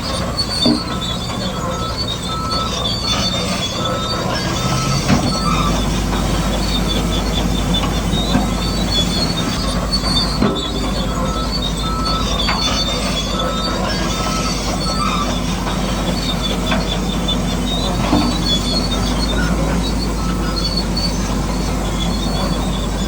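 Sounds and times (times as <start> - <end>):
heavy machinery engine running: 0.0 - 23.0
metallic squeals of crawler tracks: 0.0 - 23.0.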